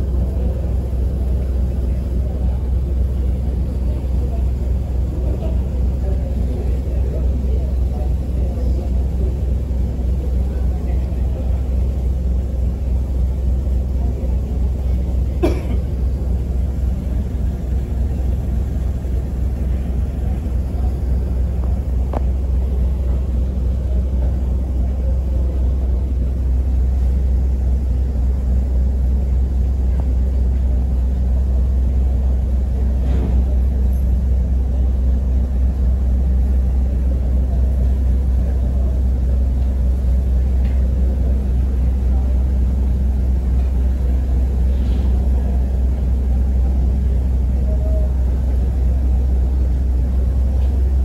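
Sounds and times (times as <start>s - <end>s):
ferry engine droning: 0.0s - 51.0s.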